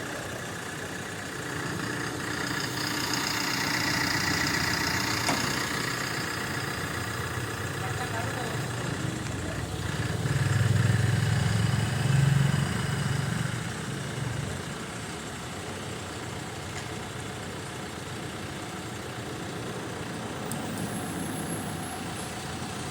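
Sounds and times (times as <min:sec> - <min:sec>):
engine running: 0:00.0 - 0:22.9.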